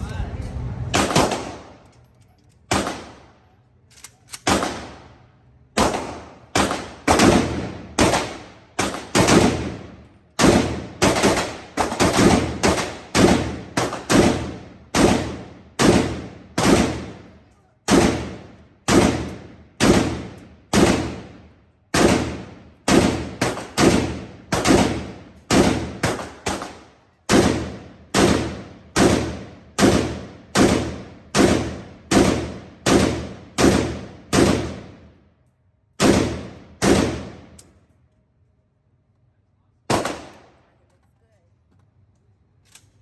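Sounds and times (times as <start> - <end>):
pistol shots echoing: 1.0 - 1.8, 2.7 - 3.4, 4.4 - 35.1, 36.0 - 37.6, 39.9 - 40.6.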